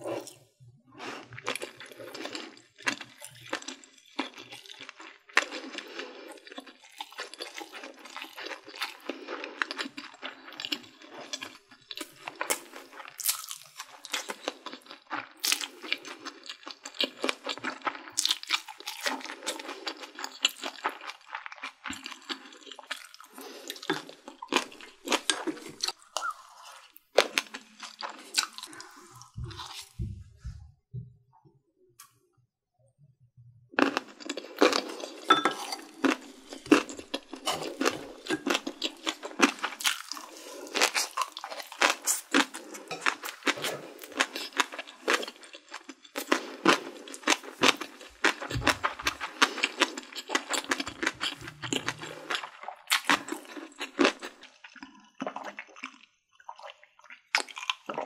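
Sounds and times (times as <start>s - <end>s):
person chewing food: 0.0s - 30.7s, 33.7s - 58.0s.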